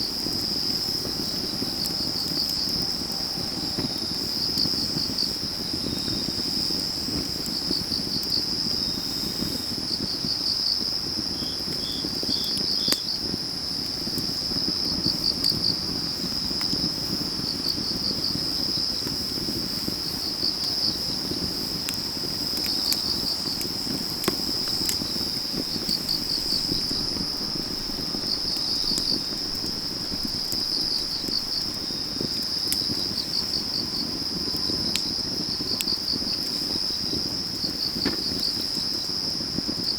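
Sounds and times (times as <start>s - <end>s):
crickets trilling: 0.0s - 39.9s
fire crackles: 0.0s - 39.9s
wood fire rushing: 0.0s - 39.9s.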